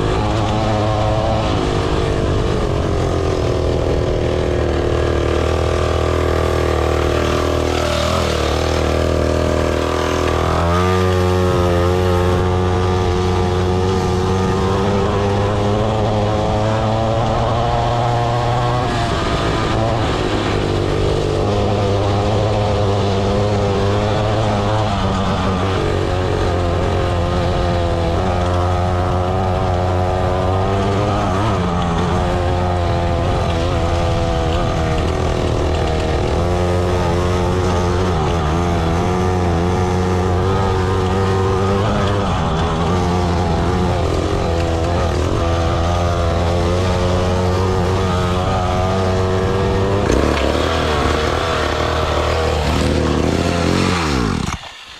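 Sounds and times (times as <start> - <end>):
small motorbike engine revving: 0.0 - 54.9.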